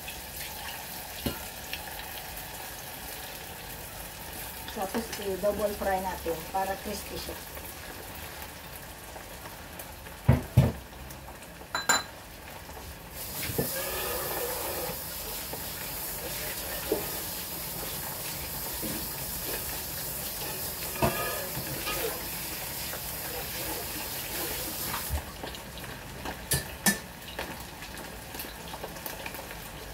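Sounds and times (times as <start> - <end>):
oil sizzling: 0.0 - 29.9.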